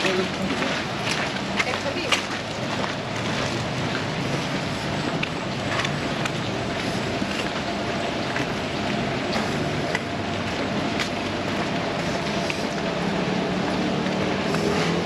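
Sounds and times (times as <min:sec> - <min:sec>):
heavy rain pouring: 0:00.0 - 0:15.0
rain drops splatting: 0:00.0 - 0:15.0.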